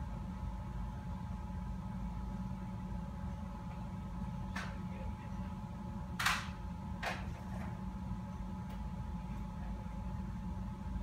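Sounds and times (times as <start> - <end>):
ventilation fan hum: 0.0 - 11.0.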